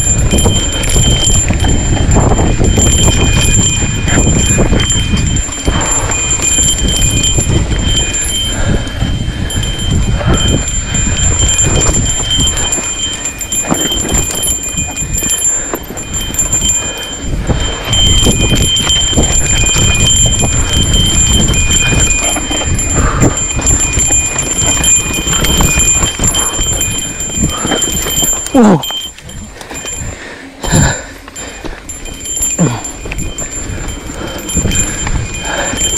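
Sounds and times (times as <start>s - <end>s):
bike rattling over bumps: 0.0s - 35.9s
bike tyres rolling on dirt: 0.0s - 35.9s
wind rumble on microphone: 0.0s - 35.9s.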